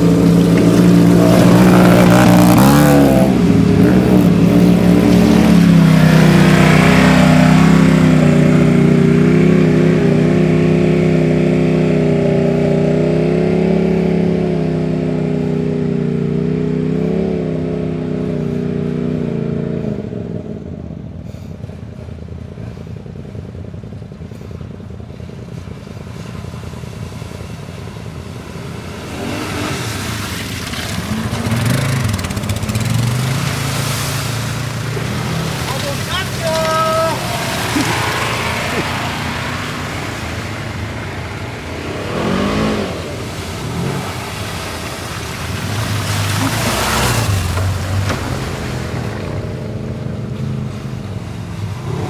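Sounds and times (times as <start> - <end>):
utility vehicle engine revving: 0.0 - 20.7, 22.5 - 52.0.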